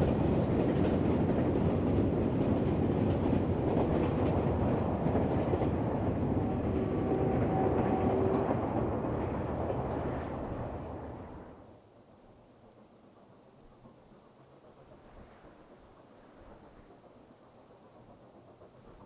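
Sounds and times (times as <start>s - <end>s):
steam locomotive wheels rumbling: 0.0s - 19.0s.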